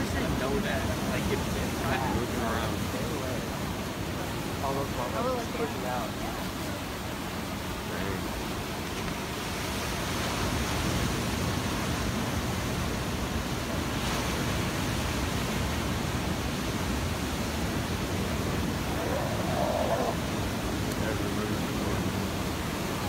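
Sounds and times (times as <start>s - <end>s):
surf washing over rocks: 0.0s - 23.0s.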